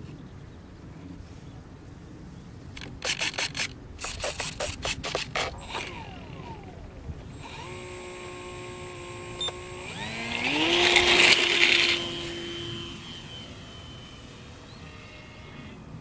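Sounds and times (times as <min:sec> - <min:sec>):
model plane motor whining: 0:02.8 - 0:16.0.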